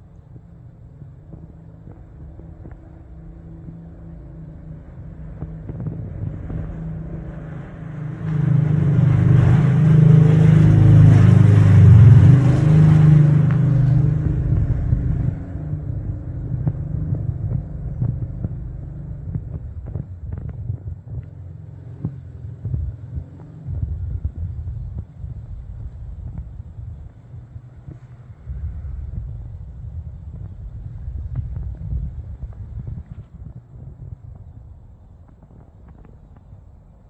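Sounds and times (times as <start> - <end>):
passing vehicle engine rumble: 0.0 - 37.0.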